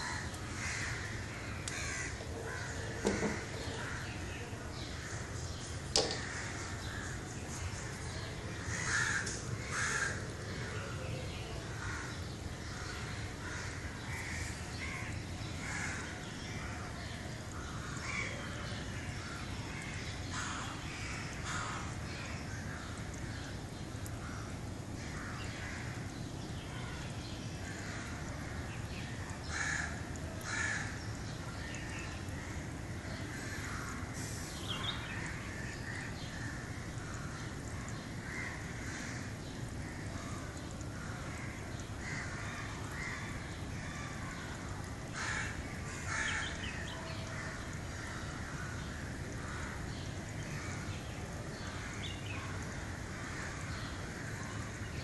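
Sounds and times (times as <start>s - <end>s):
birds calling: 0.0s - 55.0s
steady low background noise: 0.0s - 55.0s.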